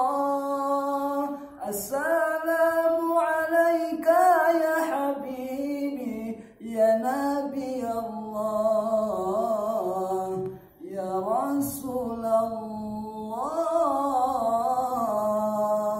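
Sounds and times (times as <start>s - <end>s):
man singing unaccompanied: 0.0s - 15.9s.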